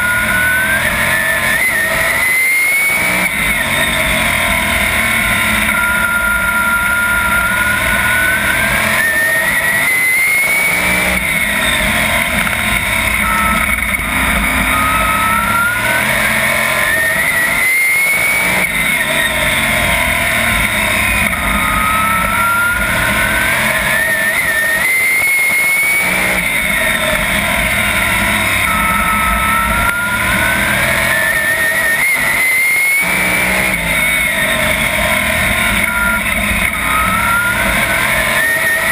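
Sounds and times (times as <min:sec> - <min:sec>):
racing car engine revving: 0:00.0 - 0:38.9.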